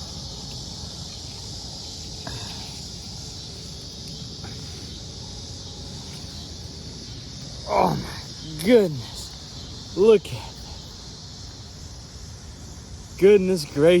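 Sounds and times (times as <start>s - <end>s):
chorus of insects: 0.0s - 14.0s
low rumble of wind: 0.0s - 14.0s.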